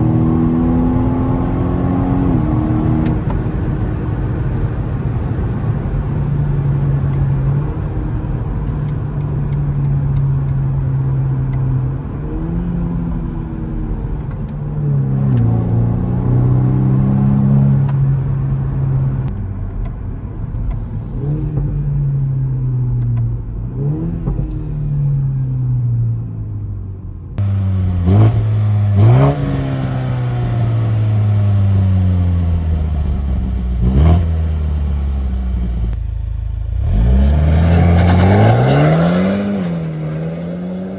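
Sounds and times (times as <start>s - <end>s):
car engine revving through exhaust: 0.0s - 19.3s, 20.7s - 26.7s, 27.4s - 40.9s.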